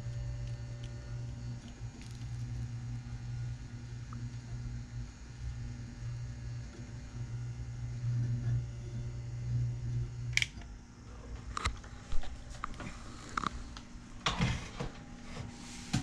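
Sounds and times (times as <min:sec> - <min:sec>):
soldering gun humming: 0:00.0 - 0:14.3.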